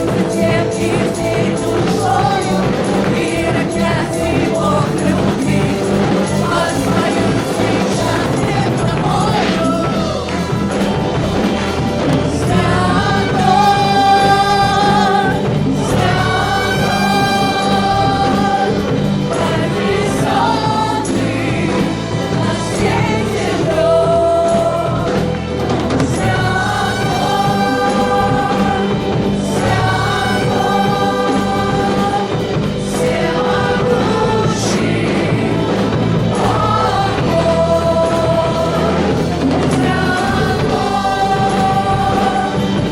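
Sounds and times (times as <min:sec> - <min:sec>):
band with low bass: 0:00.0 - 0:42.9
group of voices singing: 0:00.0 - 0:42.9.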